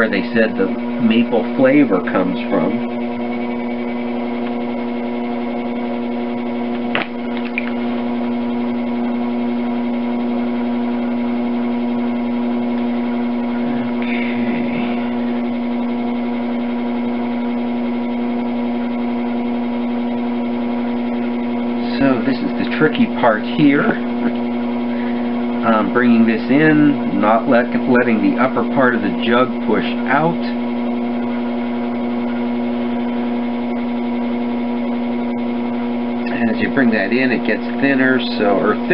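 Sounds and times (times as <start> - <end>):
potter's wheel motor humming: 0.0 - 38.9.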